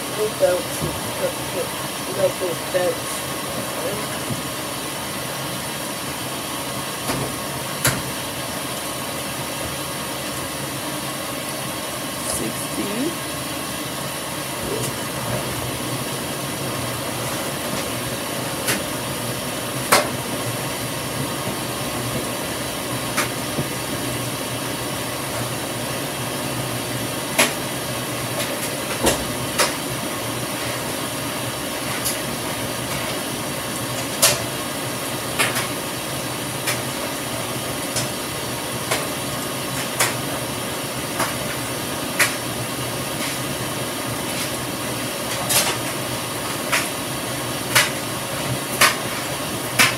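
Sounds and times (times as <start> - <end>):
water running into washing machine: 0.0 - 49.9.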